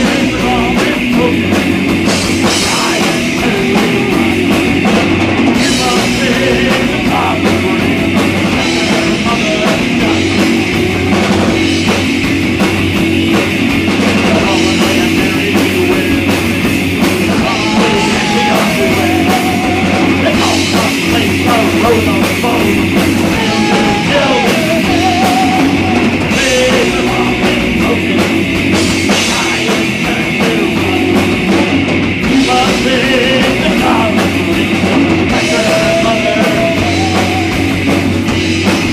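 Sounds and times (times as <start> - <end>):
rock band playing live: 0.0 - 38.9
wavering lead guitar line: 0.0 - 38.9.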